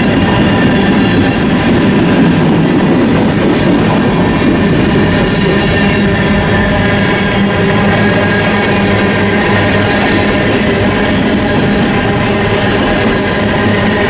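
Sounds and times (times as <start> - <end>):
ringing tones from wheels: 0.0 - 14.0
train rolling past: 0.0 - 14.0.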